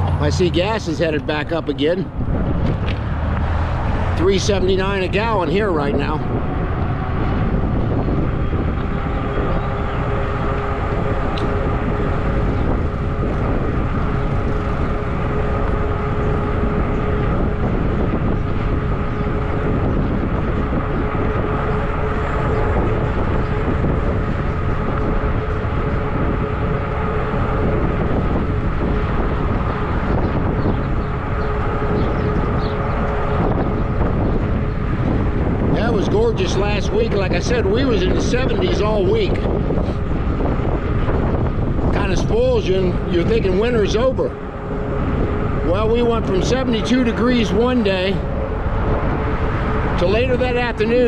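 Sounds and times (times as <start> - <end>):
road rumble: 0.0 - 51.0
steady whining hum: 0.0 - 51.0
wind rush on microphone: 0.0 - 51.0.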